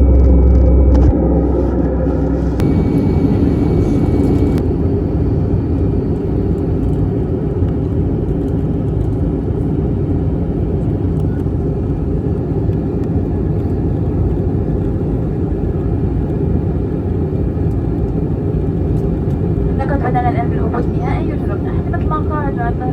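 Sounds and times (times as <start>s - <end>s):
airliner cabin rumble: 0.0s - 22.9s.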